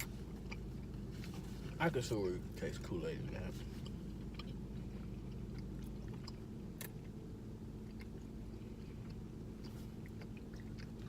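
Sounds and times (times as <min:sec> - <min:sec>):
faint chewing: 0:00.0 - 0:01.8, 0:03.3 - 0:07.2, 0:07.8 - 0:11.0
low hum: 0:00.0 - 0:11.0.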